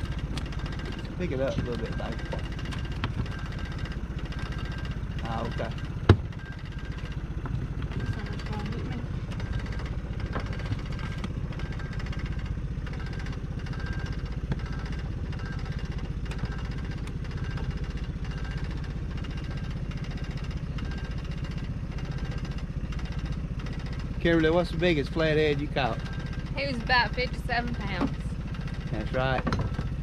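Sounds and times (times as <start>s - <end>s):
outboard motor idling: 0.0s - 30.0s.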